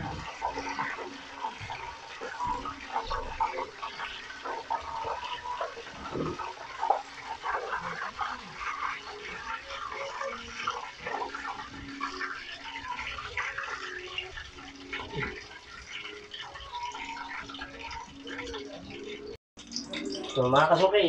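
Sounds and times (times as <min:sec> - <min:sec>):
hot oil sizzling and crackling: 0:00.0 - 0:21.0.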